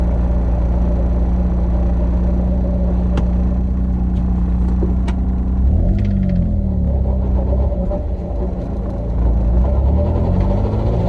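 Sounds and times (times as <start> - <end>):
car drivetrain drone: 0.0 - 11.0.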